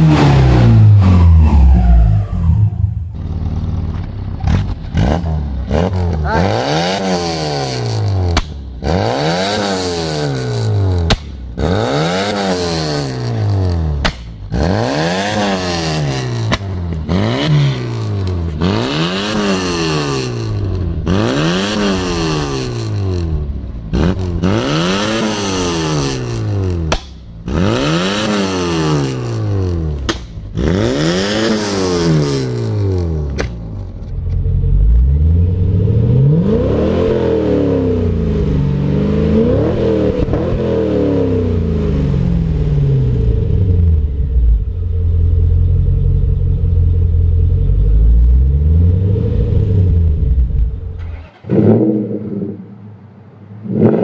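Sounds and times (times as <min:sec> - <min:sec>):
car engine revving: 0:00.0 - 0:54.0
second car engine revving: 0:00.0 - 0:54.0.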